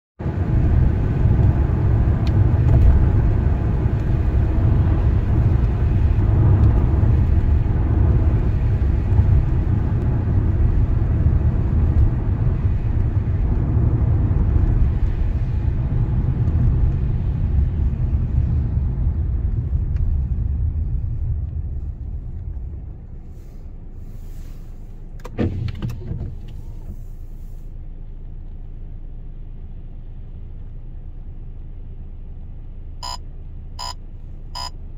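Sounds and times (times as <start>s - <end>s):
car road noise rumble: 0.2s - 34.9s.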